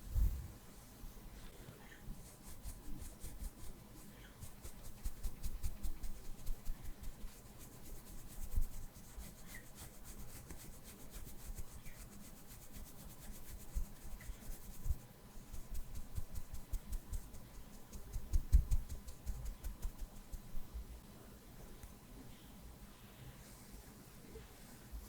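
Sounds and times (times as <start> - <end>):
brush rustling on microphone: 0.0 - 20.7.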